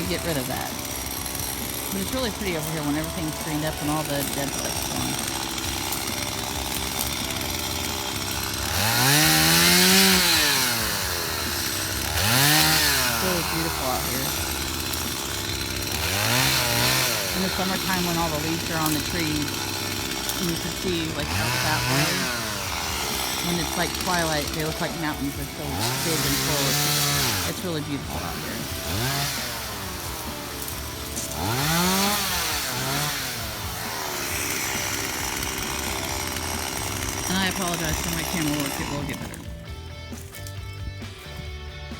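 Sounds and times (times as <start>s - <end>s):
chainsaw idling and revving: 0.0s - 41.9s.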